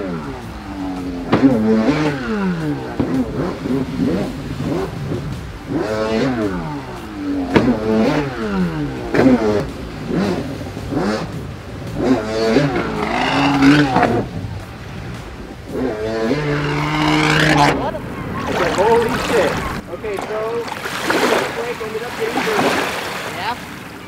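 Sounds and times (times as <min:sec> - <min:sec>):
jet ski engine revving: 0:00.0 - 0:24.0
water spray rushing: 0:00.0 - 0:24.0.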